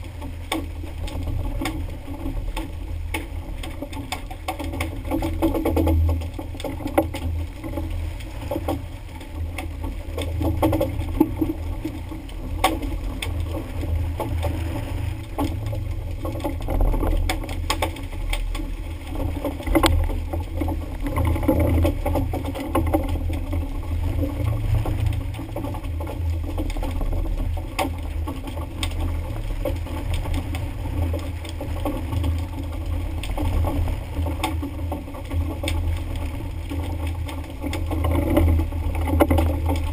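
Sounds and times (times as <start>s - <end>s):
boat engine low rumble: 0.0s - 39.9s.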